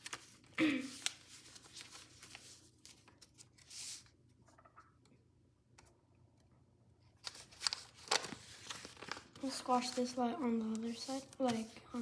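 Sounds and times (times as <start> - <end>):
soft paper rustle: 0.0 - 5.0, 7.0 - 12.0
paper clicks and creases: 0.0 - 5.1, 7.1 - 12.0.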